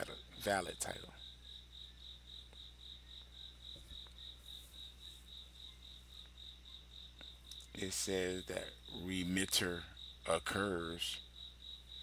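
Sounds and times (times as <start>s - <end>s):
cricket chirping: 0.0s - 12.0s
faint electrical hum: 0.0s - 12.0s.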